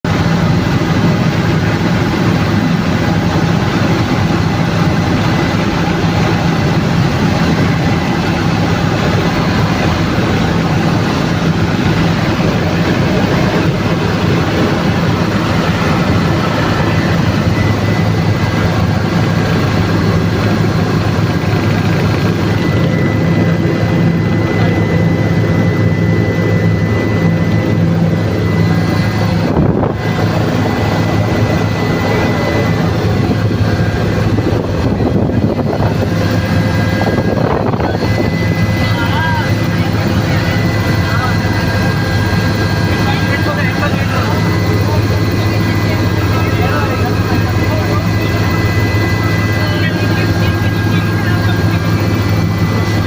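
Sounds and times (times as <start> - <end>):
helicopter turbine and rotor: 0.1 - 53.0.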